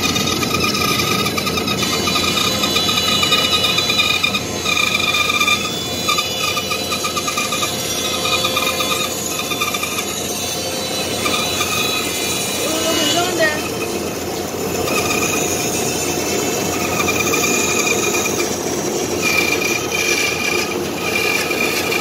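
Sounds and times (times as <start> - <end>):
band saw cutting wood: 0.0 - 22.0
high wavering blade whine: 0.0 - 22.0.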